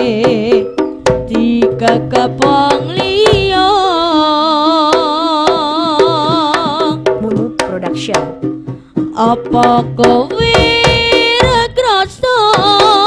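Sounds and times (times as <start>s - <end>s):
woman singing with vibrato: 0.0s - 8.4s, 9.0s - 13.0s
sharp drum strokes: 0.0s - 13.0s.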